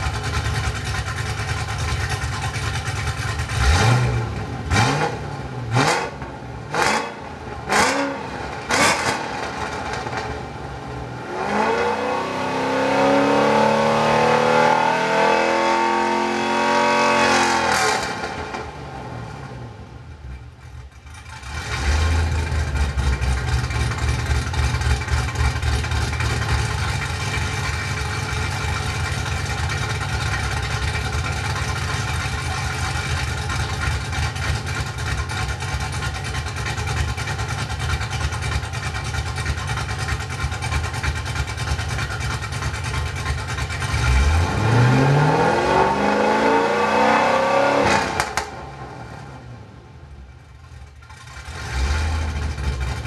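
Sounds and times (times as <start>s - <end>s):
car engine idling with lope: 0.0s - 11.3s, 17.7s - 44.8s, 48.2s - 53.0s
car engine revving: 0.0s - 20.1s, 20.9s - 49.8s, 50.5s - 53.0s.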